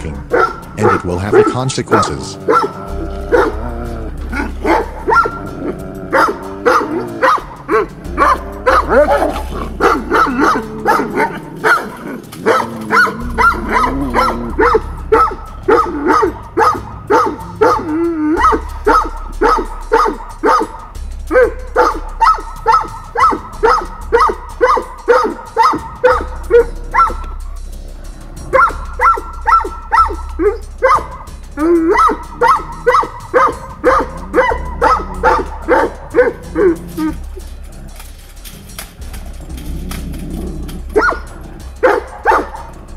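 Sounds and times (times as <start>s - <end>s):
dogs growling and snarling: 0.0s - 1.5s, 2.1s - 42.9s
background music: 0.0s - 42.9s
dogs barking: 0.0s - 42.9s.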